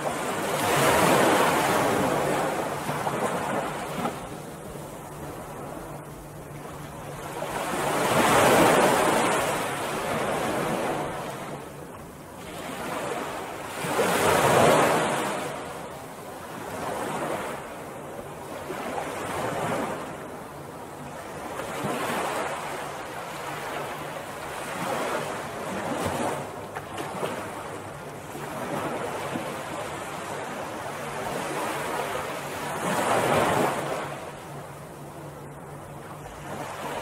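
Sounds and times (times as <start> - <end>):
ocean waves washing onto beach: 0.0 - 37.0.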